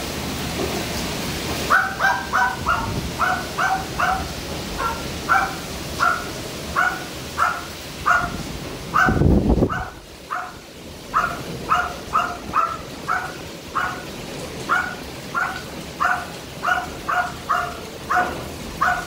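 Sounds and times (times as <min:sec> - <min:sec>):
heavy rain pouring: 0:00.0 - 0:19.0
dog barking: 0:01.7 - 0:19.0.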